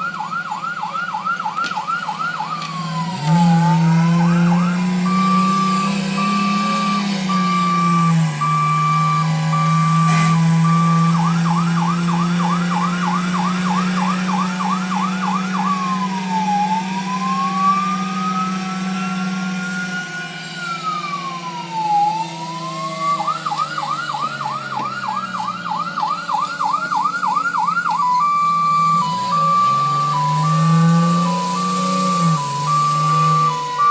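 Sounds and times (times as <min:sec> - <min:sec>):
fire truck siren: 0:00.0 - 0:33.9.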